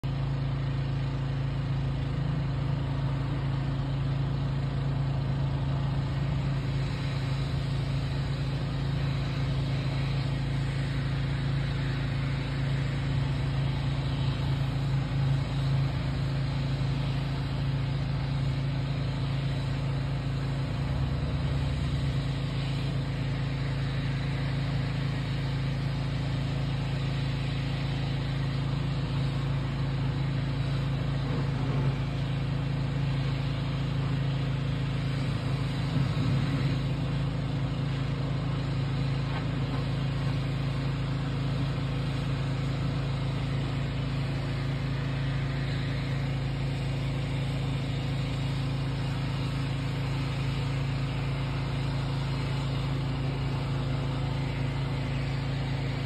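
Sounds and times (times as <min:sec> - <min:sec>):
low mechanical motor hum: 0:00.0 - 0:56.0.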